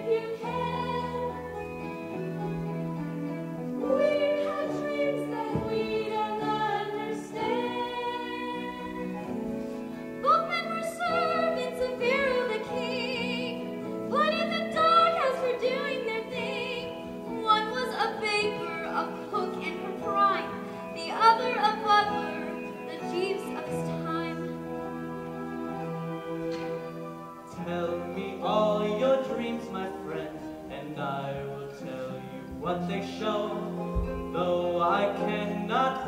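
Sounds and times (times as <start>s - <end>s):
instrumental accompaniment: 0.0s - 36.0s.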